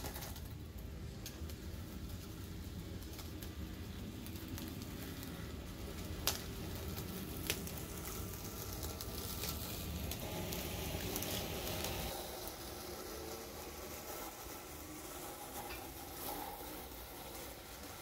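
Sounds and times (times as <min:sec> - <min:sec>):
toy lawn mower running: 0:00.0 - 0:18.0.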